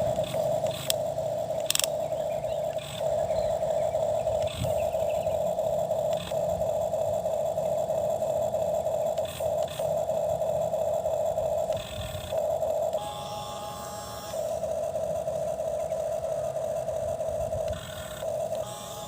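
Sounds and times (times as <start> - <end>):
toy electric motor whining: 0.0 - 19.0.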